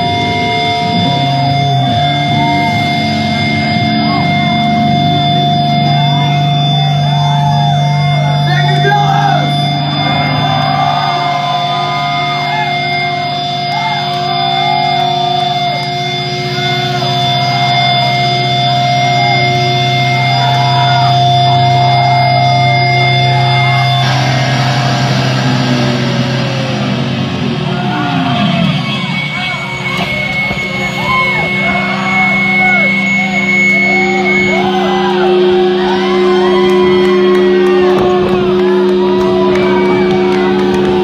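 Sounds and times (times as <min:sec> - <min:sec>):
crowd cheering and yelling: 0:00.0 - 0:41.0
electric guitar amplifier feedback: 0:00.0 - 0:41.0.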